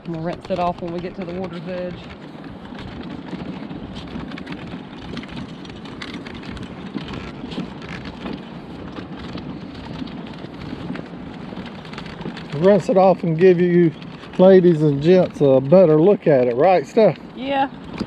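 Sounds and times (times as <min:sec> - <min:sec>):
small crackles: 0:00.0 - 0:18.0
wind buffeting microphone: 0:00.0 - 0:18.0.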